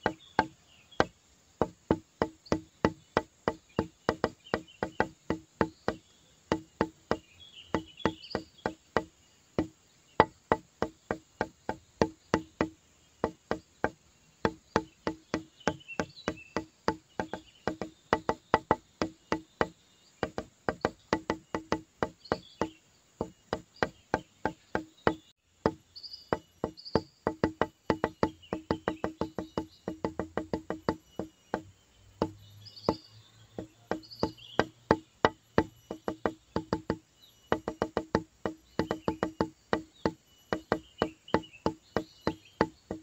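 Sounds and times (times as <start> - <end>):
wood-block clicks beat: 0.0 - 43.0.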